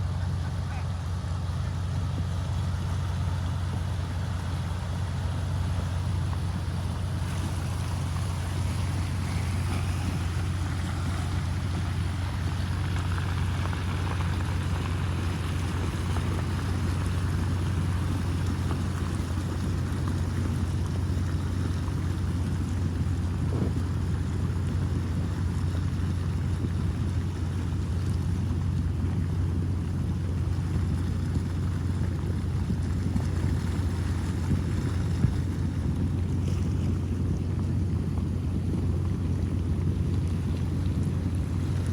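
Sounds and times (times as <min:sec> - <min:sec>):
floodwater rushing: 0:00.0 - 0:41.9
heavy low rumble: 0:00.0 - 0:41.9.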